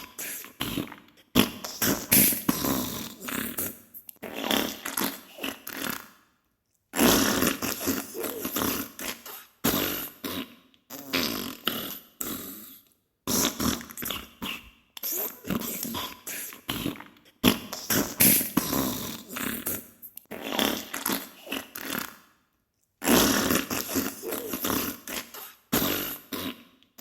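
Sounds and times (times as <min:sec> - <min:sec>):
fart bursts: 0:00.0 - 0:06.1, 0:07.0 - 0:12.6, 0:13.3 - 0:22.2, 0:23.0 - 0:26.7.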